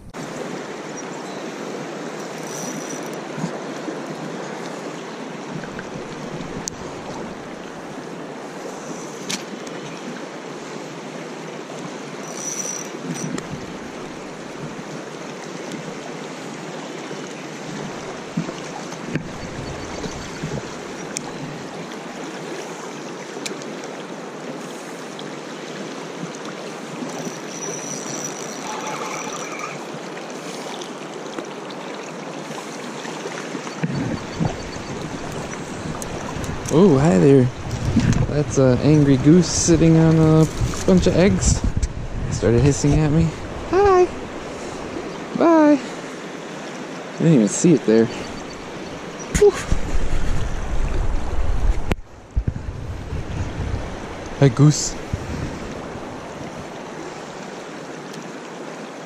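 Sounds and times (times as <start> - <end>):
river flowing over stones: 0.1 - 41.5, 42.5 - 59.0.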